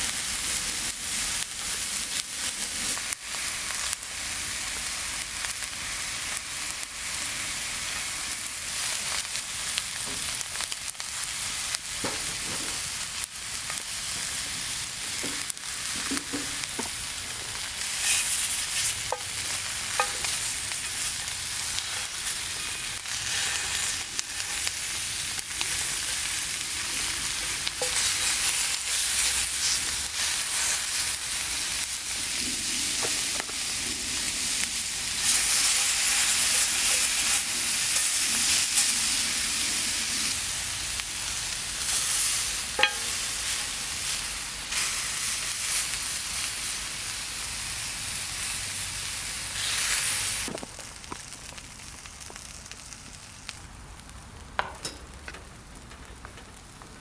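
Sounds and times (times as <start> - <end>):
ribs sizzling: 0.0 - 57.0.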